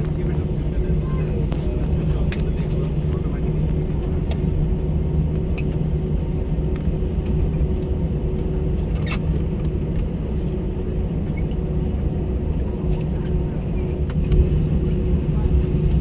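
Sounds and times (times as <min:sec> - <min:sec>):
aircraft cabin rumble and hum: 0:00.0 - 0:16.0.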